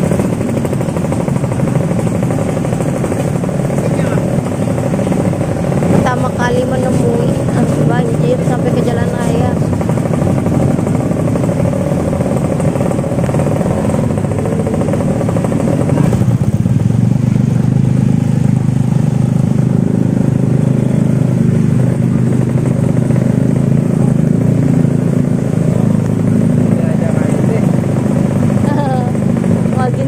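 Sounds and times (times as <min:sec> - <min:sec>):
motorbike engine droning: 0:00.0 - 0:30.0.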